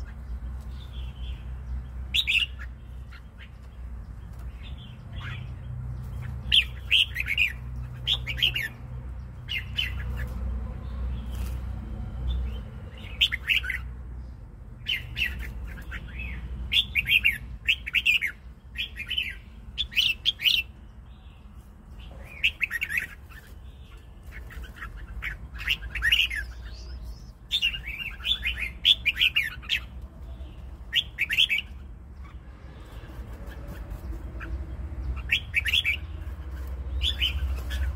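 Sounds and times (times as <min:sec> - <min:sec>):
bird singing warbled phrases: 0:00.0 - 0:11.6, 0:12.3 - 0:37.9.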